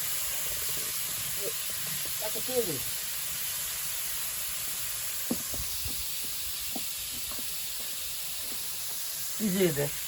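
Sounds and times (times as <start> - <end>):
meat sizzling on griddle: 0.0 - 10.0.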